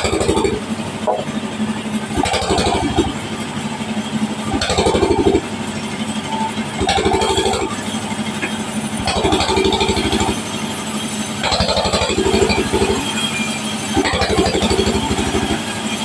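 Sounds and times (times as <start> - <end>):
sawmill saw cutting log: 0.0 - 1.4, 2.0 - 3.2, 4.4 - 5.6, 6.8 - 16.0.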